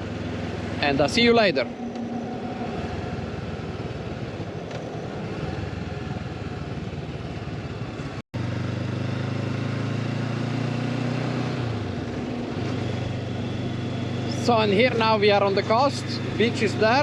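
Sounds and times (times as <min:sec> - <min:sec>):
motorcycle engine hum: 0:00.0 - 0:17.0
wind and road noise: 0:00.0 - 0:17.0.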